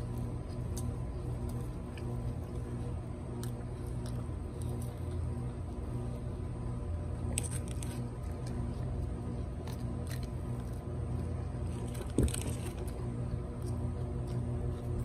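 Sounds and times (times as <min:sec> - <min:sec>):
chewing: 0:00.0 - 0:06.5, 0:07.1 - 0:15.0.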